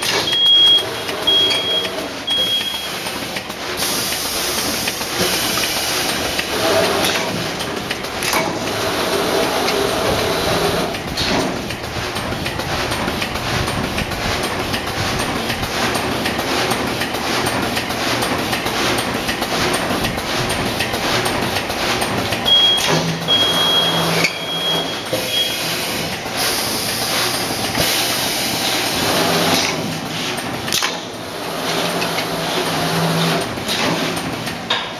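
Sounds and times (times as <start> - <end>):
machine mechanical clatter: 0.0 - 34.9.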